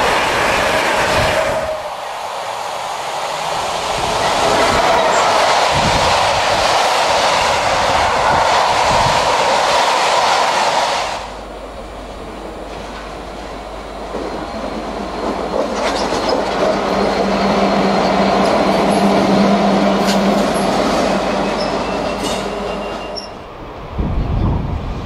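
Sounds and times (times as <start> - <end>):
diesel locomotive engine: 0.0 - 25.0.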